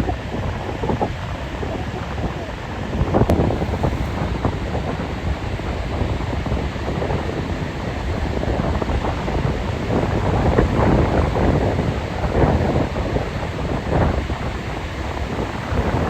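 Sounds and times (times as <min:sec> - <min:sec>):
waves breaking and surf rushing: 0:00.0 - 0:16.0
wind buffeting microphone: 0:00.0 - 0:16.0.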